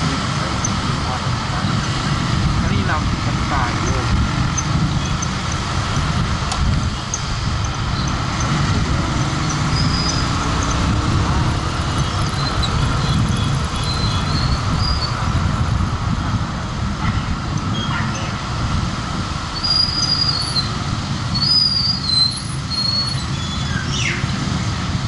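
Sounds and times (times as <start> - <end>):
vehicle driving rumble: 0.0 - 25.0.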